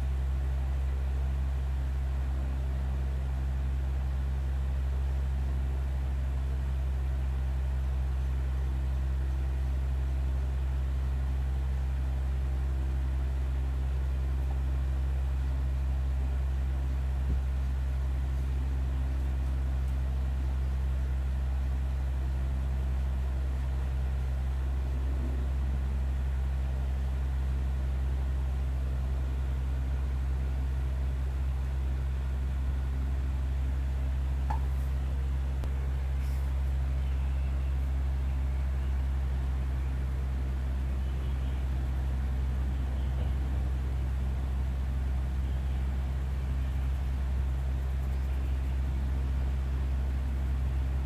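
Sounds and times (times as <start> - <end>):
low droning hum: 0.0 - 51.0.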